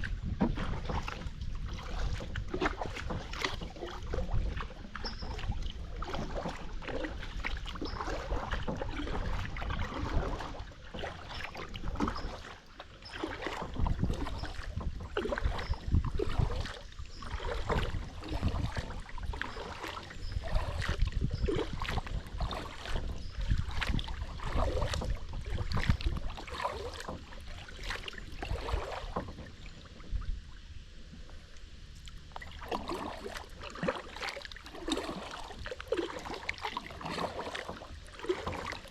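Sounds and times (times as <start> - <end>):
paddle splashing in water: 0.0 - 38.9.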